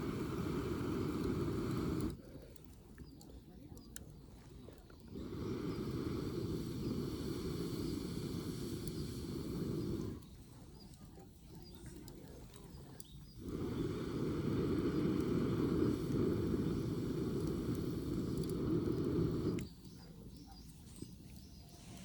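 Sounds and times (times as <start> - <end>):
wind rumbling on microphone: 0.0 - 2.2, 4.3 - 22.0.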